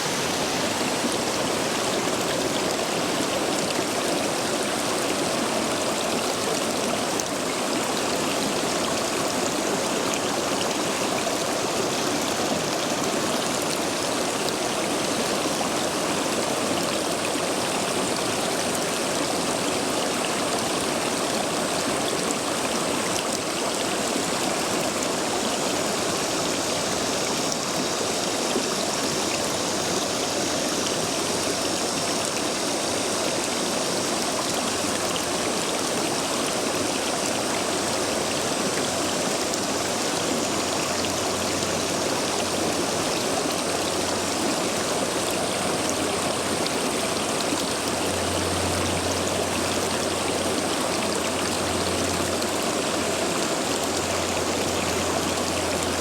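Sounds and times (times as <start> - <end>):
stream water rushing over stones: 0.0 - 56.0.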